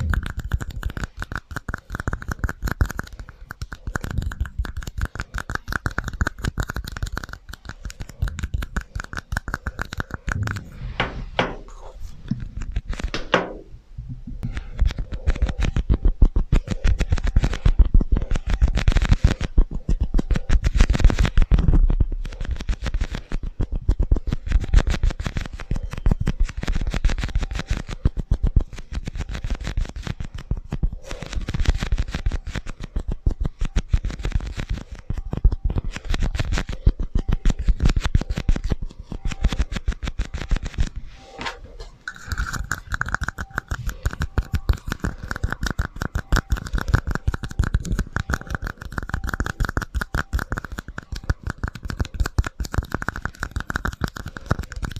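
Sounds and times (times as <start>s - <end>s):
scratching and tapping on hard objects: 0.0s - 13.7s, 14.4s - 54.9s.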